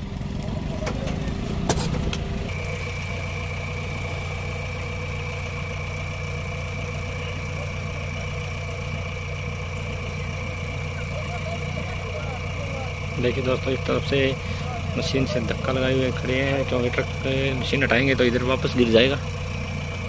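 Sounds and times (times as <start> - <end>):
diesel engine idling: 0.0 - 20.0
thin steady whine: 0.9 - 20.0.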